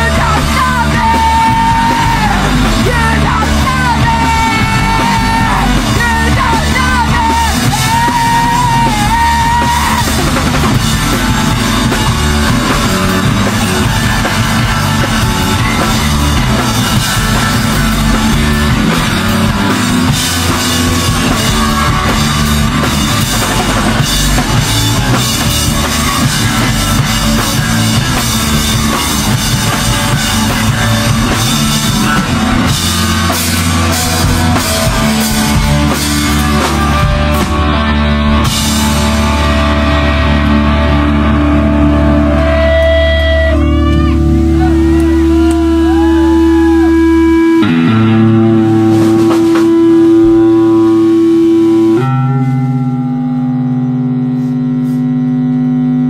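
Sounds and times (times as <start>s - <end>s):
drum kit with cymbals: 0.0s - 40.6s, 42.6s - 52.6s, 54.2s - 55.4s
bass guitar: 0.0s - 56.0s
distorted electric guitar: 0.0s - 56.0s.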